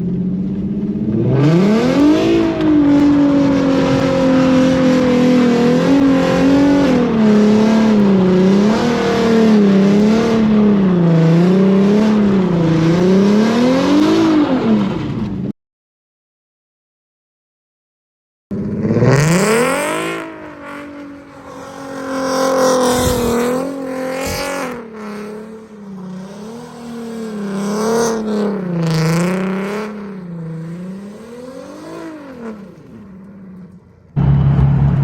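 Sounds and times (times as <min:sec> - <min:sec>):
car engine revving hard: 0:00.9 - 0:15.1, 0:18.5 - 0:33.2.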